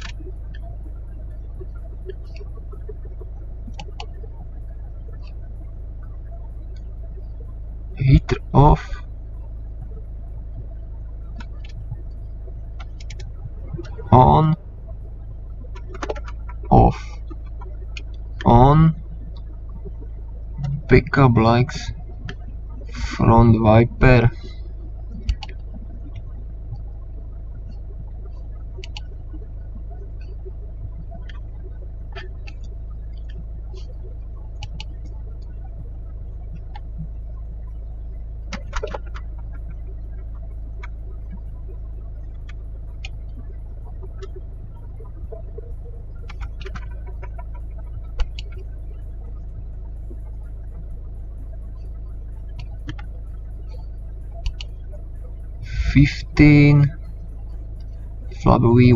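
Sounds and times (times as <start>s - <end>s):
car engine idling: 0.0s - 58.9s
steady low hum: 0.0s - 58.9s.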